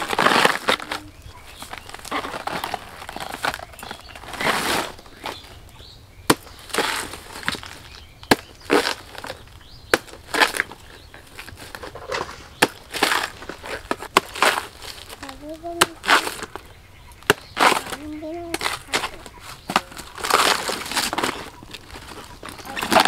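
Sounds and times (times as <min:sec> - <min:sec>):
leaf sheaths cracking and ripping: 0:00.0 - 0:05.5, 0:06.3 - 0:16.7, 0:17.3 - 0:23.0
sickle cutting banana trunk: 0:00.0 - 0:05.6, 0:06.2 - 0:23.0.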